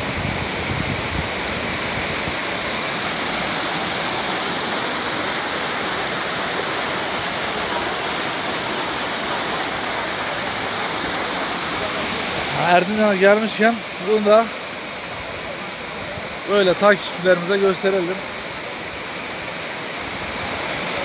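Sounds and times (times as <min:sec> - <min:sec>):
waterfall rushing and splashing: 0:00.0 - 0:21.0.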